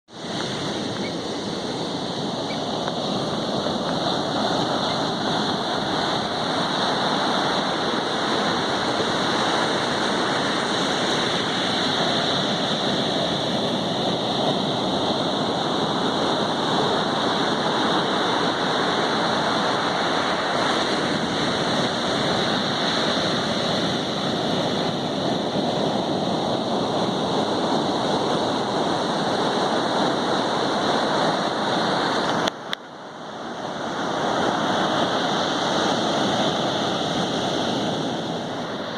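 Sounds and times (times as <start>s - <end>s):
sea waves washing onto beach: 0.1s - 38.9s.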